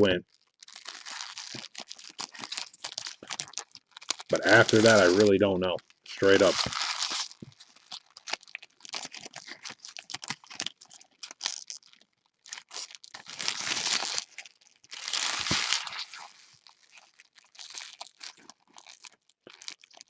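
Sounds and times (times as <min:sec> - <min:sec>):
plastic and foil wrapping crinkling: 0:00.0 - 0:20.0
wrapping tearing: 0:00.0 - 0:20.0.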